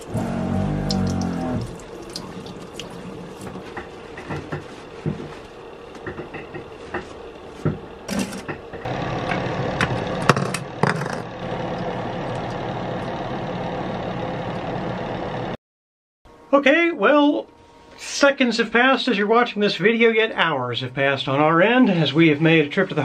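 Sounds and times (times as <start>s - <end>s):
heater fan whirring: 0.0s - 15.6s, 16.3s - 23.0s.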